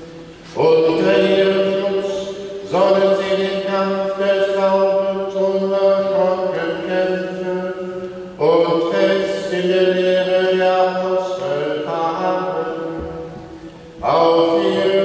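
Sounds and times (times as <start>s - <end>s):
chant sung in reverberant church: 0.0s - 15.0s.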